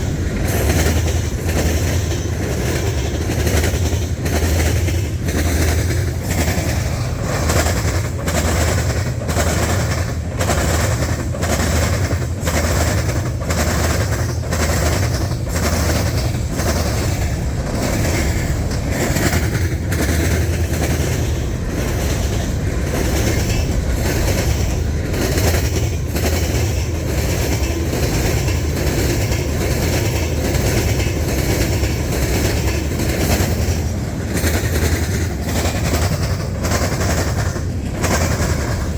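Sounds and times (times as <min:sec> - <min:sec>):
freight train rumbling past: 0:00.0 - 0:38.9
train wheels clickety-clack: 0:00.0 - 0:38.9.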